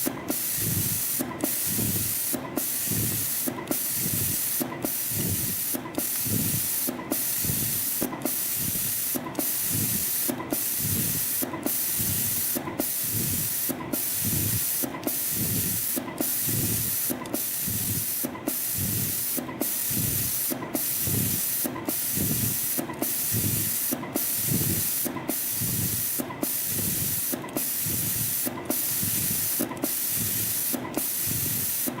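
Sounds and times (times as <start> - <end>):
spring coiling machine hiss: 0.0 - 32.0.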